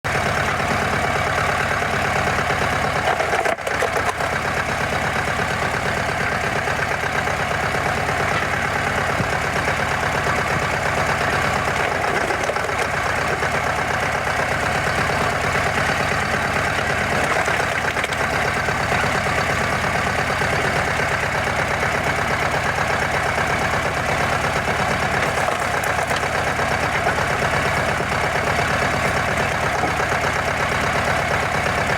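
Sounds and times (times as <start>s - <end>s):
log splitter engine running: 0.1s - 31.9s.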